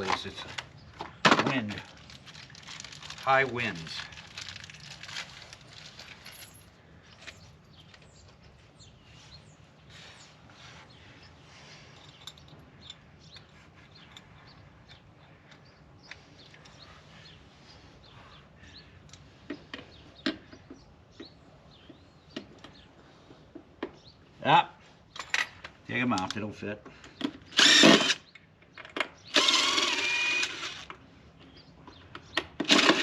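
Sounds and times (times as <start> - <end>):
birds chirping: 0.0 - 2.3, 6.3 - 32.6.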